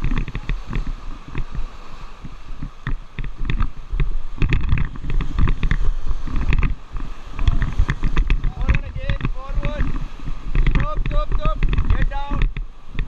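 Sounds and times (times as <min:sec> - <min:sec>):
water splashing and trickling: 0:00.0 - 0:13.0
wind buffeting microphone: 0:00.0 - 0:13.0.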